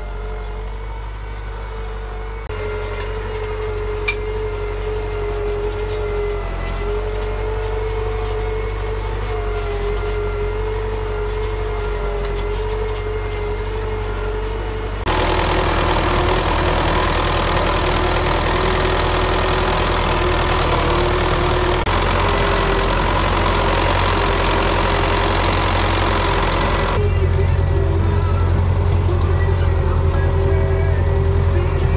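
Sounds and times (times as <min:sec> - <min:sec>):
tractor diesel engine under load: 0:00.0 - 0:31.9.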